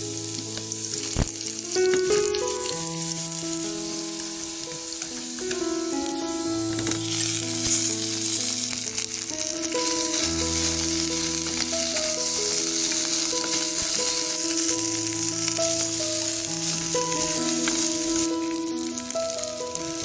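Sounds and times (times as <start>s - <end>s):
background music of held notes: 0.0s - 20.0s
food sizzling in hot oil: 0.0s - 20.0s.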